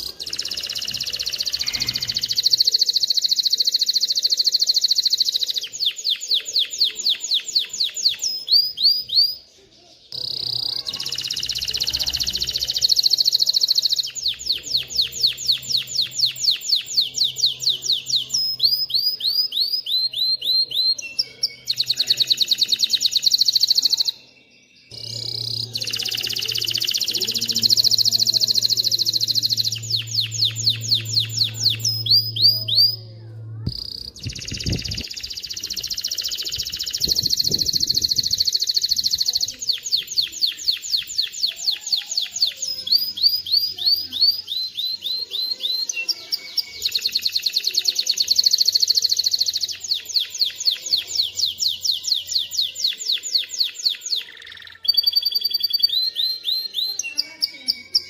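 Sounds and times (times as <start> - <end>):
canary singing fast trills: 0.0 - 58.0.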